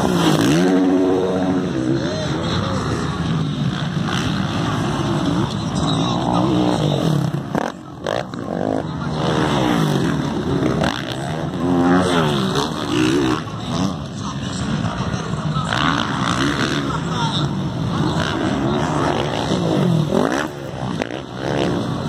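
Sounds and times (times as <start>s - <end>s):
motocross motorcycles revving: 0.0s - 22.0s.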